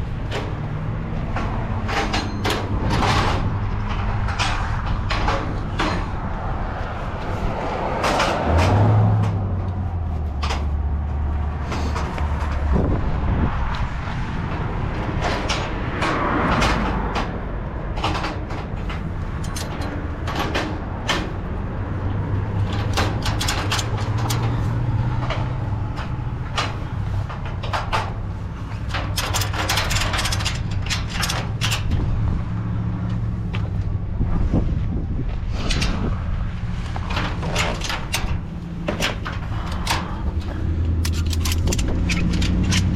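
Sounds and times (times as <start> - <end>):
rattles and knocks in truck cab: 0.0 - 6.5, 14.3 - 42.9.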